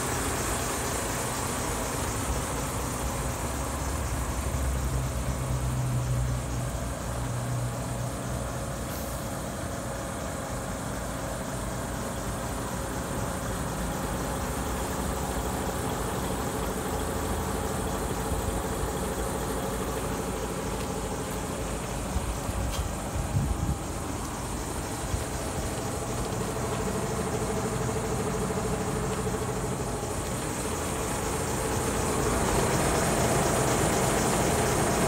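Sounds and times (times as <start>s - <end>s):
truck diesel engine idling: 0.0s - 35.0s.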